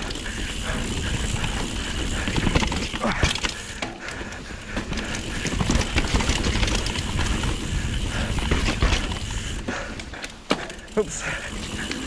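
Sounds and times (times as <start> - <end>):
bike tyres rumbling over dirt: 0.0 - 12.0.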